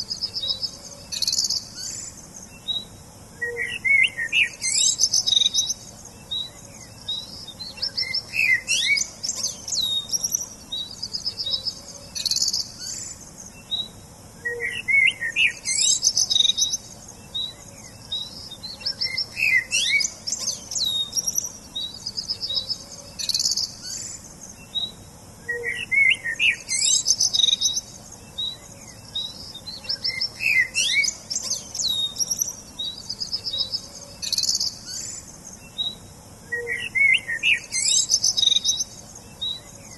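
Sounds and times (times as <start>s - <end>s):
small songbirds singing: 0.0s - 39.9s
steady high hiss: 0.0s - 39.9s.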